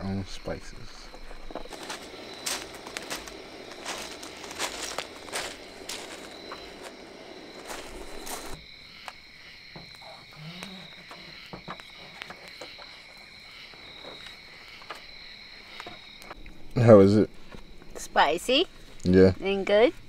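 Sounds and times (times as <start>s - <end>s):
insects and frogs calling: 0.0s - 20.0s
campfire crackling: 0.1s - 20.0s.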